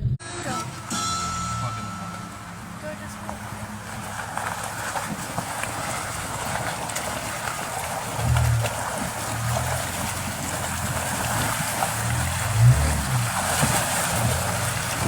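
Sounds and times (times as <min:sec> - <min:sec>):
car engine under load: 0:00.0 - 0:15.0
tyre and trail noise: 0:00.7 - 0:15.0.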